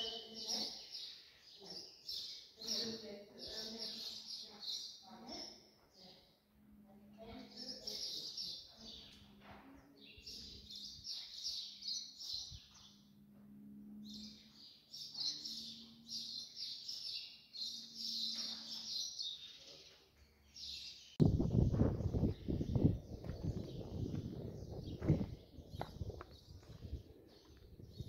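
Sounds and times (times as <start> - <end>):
small birds chirping: 0.0 - 6.4, 7.2 - 13.1, 14.0 - 28.0.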